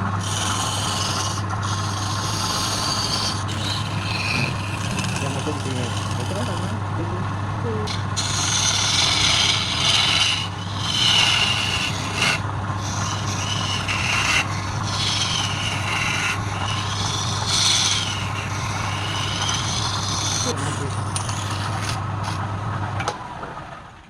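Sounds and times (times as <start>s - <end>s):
tool scraping spinning wood: 0.0s - 22.8s
wood lathe humming: 0.0s - 23.0s.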